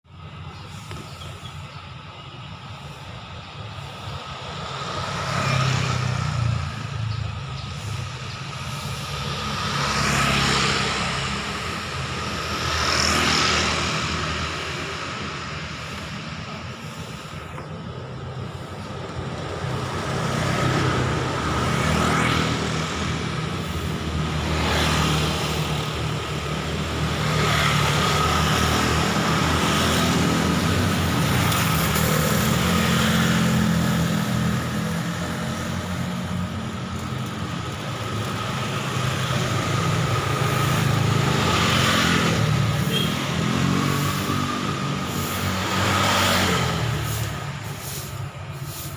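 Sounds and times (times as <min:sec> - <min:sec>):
passing vehicles: 0:00.0 - 0:48.9.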